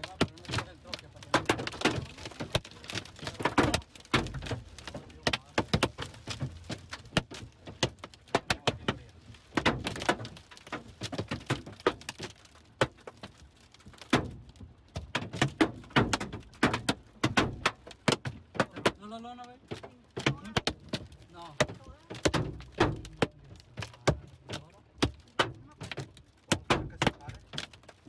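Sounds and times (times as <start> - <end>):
hail striking car: 0.0 - 28.0.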